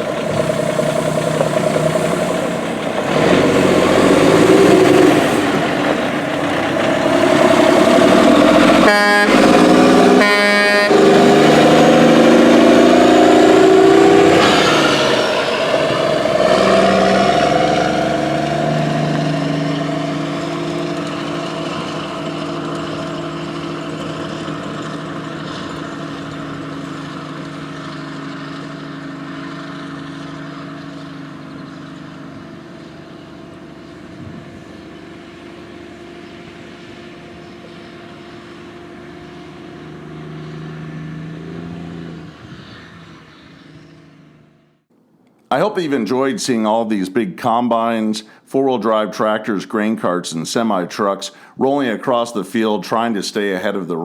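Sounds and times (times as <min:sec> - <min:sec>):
diesel engine running: 0:00.0 - 0:46.3, 0:50.6 - 0:54.0.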